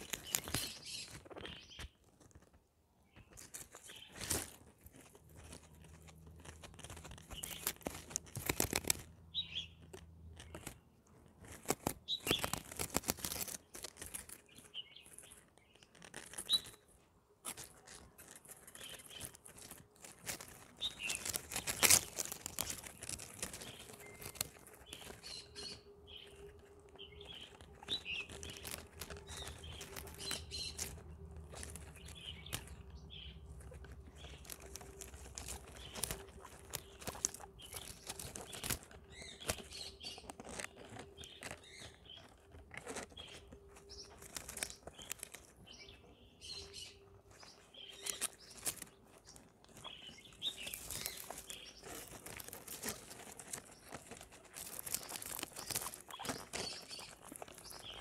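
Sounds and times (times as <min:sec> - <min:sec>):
guinea pig chirps: 0:00.0 - 0:02.0, 0:03.1 - 0:10.8, 0:11.4 - 0:58.0
guinea pigs chewing plants: 0:00.0 - 0:58.0.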